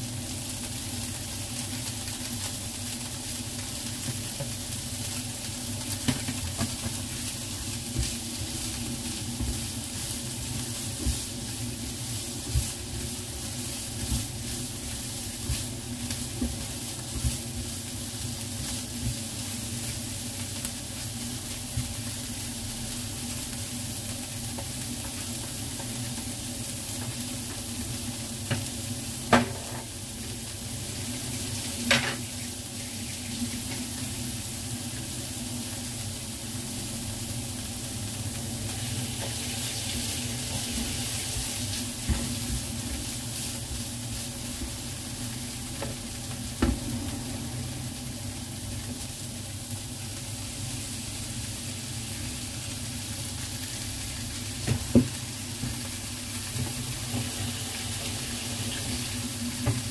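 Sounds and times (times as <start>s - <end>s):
meat and onion sizzling: 0.0s - 59.9s.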